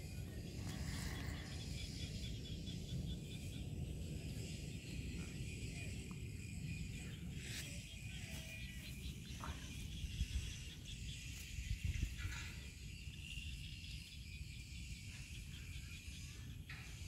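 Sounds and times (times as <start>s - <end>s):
insects chirping: 0.0s - 17.0s
wind rumble on microphone: 0.0s - 17.0s.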